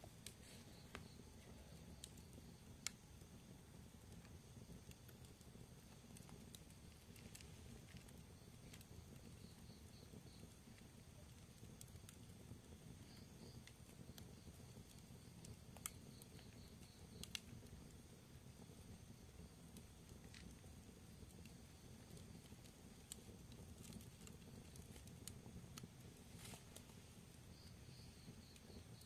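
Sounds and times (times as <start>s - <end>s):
fire burning rumble: 0.0s - 29.0s
fire pops: 0.0s - 29.0s
soft fire crackles: 0.0s - 29.0s.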